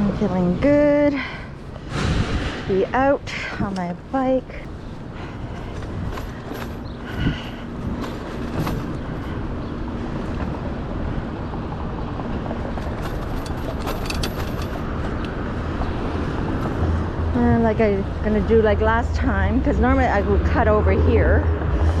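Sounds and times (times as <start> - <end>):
street traffic rushing: 0.0 - 22.0.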